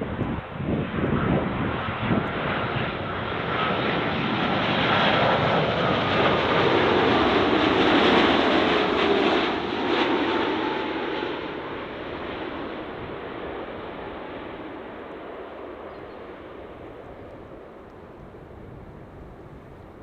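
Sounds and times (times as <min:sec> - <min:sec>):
jet airliner passing by: 0:00.0 - 0:20.0.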